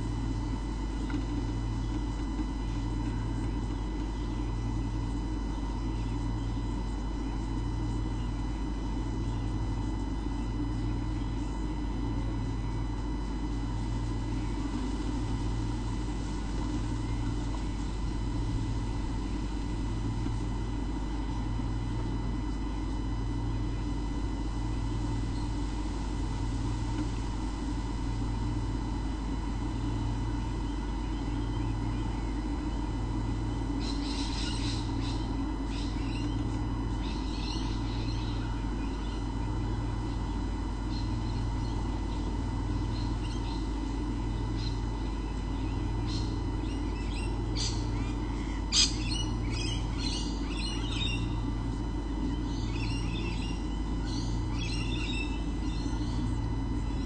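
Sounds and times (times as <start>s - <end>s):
electrical hum with pulsing throb: 0.0s - 57.0s.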